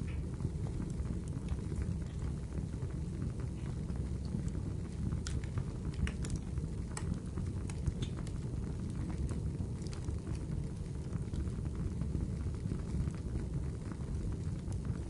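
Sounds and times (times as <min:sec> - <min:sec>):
burning wood crackles and pops: 0:00.0 - 0:15.0
low rumble of flames: 0:00.0 - 0:15.0.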